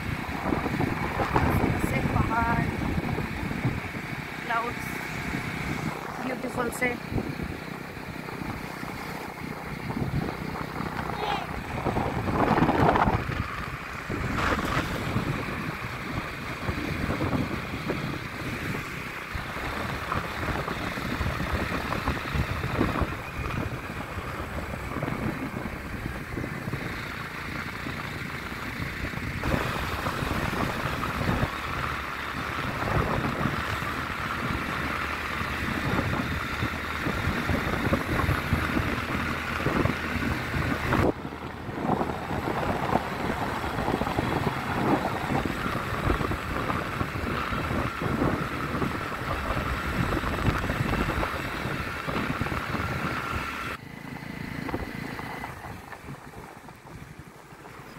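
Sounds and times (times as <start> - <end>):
wind buffeting microphone: 0.0 - 53.8, 54.5 - 57.9
motorcycle engine running: 0.0 - 57.9.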